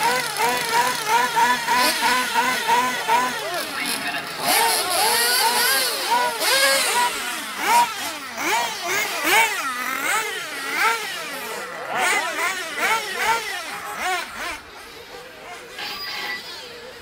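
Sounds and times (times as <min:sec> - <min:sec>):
toy car motors revving: 0:00.0 - 0:17.0.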